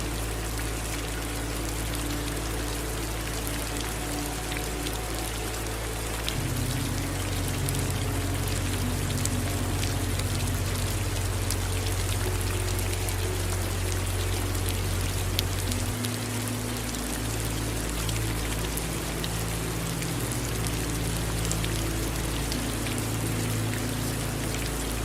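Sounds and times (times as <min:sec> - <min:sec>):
low rumble: 0:00.0 - 0:25.0
rain pattering: 0:00.0 - 0:25.0
running water: 0:00.0 - 0:25.0.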